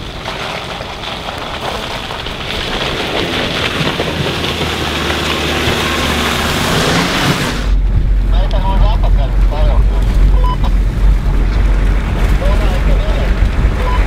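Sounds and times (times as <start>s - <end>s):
engine running under load: 0.0s - 14.0s
tyres splashing through mud: 0.0s - 14.0s.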